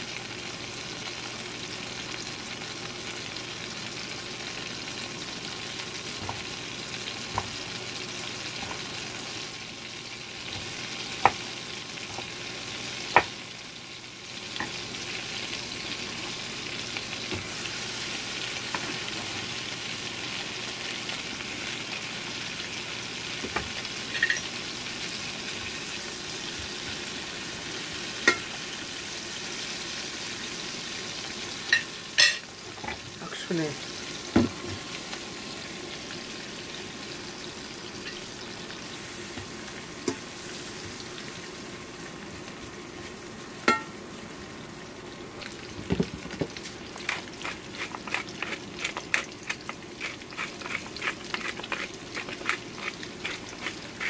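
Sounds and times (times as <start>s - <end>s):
butter sizzling in a frying pan: 0.0s - 54.0s.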